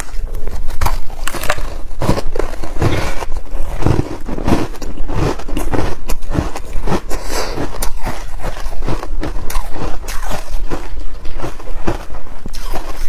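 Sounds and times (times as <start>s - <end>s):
chewing crunchy ice: 0.0s - 13.0s.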